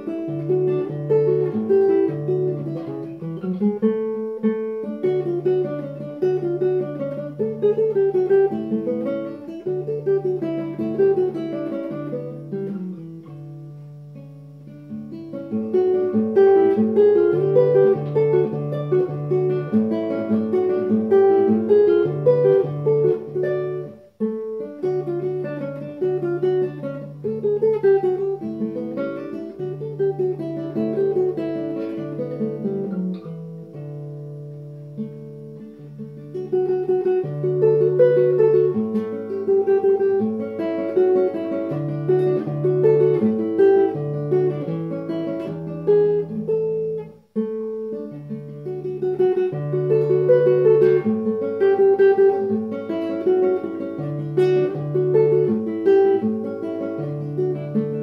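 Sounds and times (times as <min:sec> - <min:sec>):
classical guitar fingerpicking: 0:00.0 - 0:58.0.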